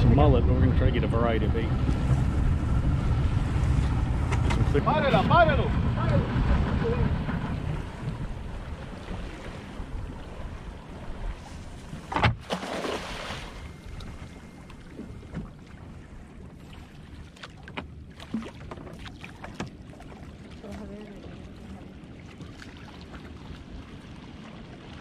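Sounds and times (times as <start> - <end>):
wind and water noise: 0.0 - 25.0.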